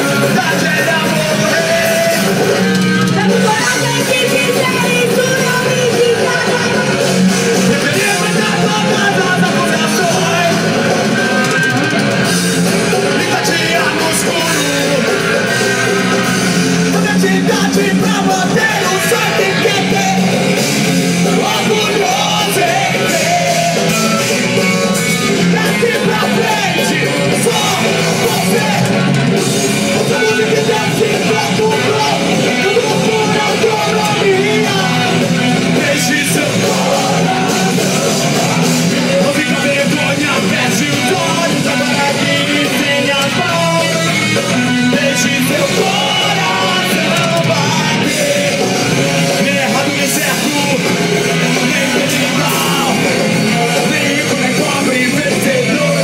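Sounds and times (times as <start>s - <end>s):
punk band playing live: 0.0s - 56.0s
shouted and sung vocals: 0.0s - 56.0s.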